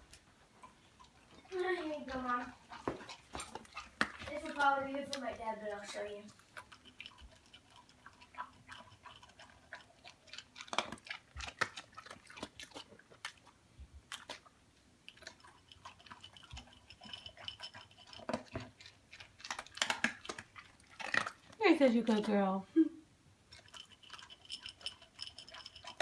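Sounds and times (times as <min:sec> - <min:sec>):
pet chewing crunchy food: 0:00.0 - 0:22.5, 0:23.4 - 0:26.0.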